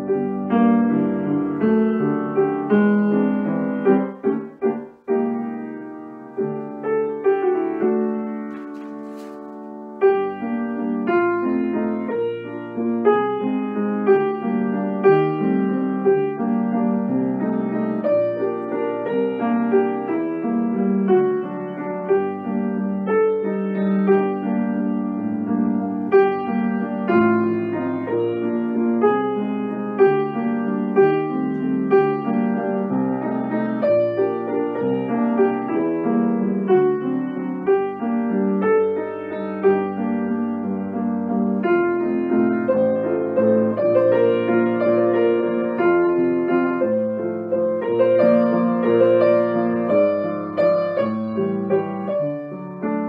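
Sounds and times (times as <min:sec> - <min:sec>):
grand piano playing: 0:00.0 - 0:53.0.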